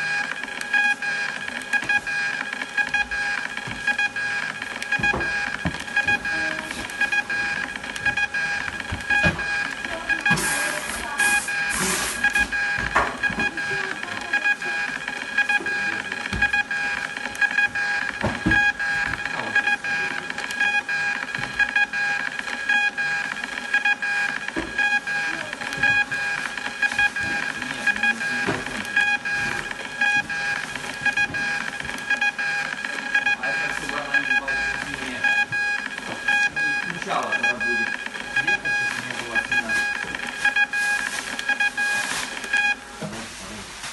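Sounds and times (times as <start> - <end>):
label printer whining: 0.0 - 43.9.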